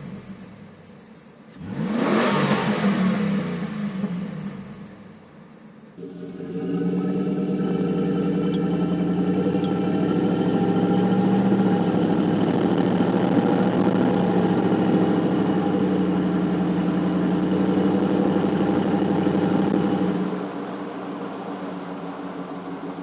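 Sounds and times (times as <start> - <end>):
engine running with low exhaust note: 0.0 - 23.0.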